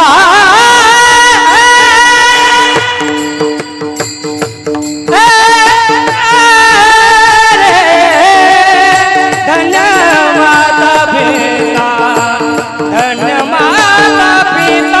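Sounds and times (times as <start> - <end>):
instrumental accompaniment: 0.0 - 15.0
person singing devotional song: 0.0 - 15.0.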